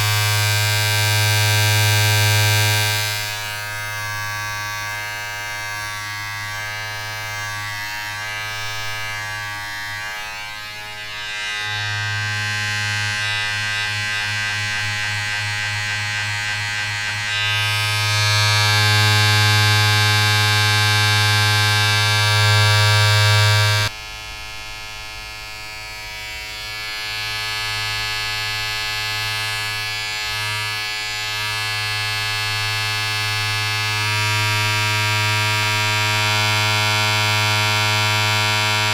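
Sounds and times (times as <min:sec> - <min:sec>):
small electric motor buzzing: 0:00.0 - 0:23.9, 0:25.5 - 0:38.9.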